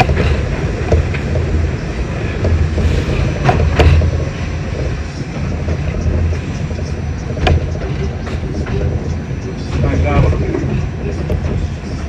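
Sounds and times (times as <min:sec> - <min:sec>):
sharp track clack: 0:00.0 - 0:12.0
subway wheels rumbling on track: 0:00.0 - 0:12.0.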